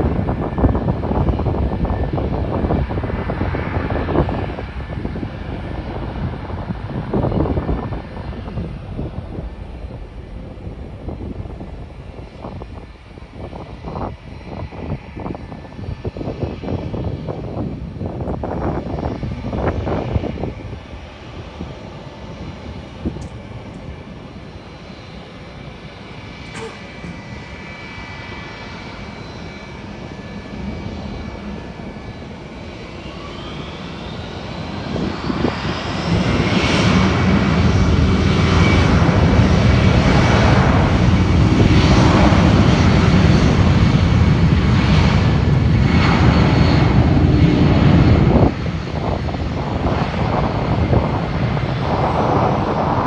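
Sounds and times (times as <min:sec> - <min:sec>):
jet engine whine and roar: 0:00.0 - 0:53.0.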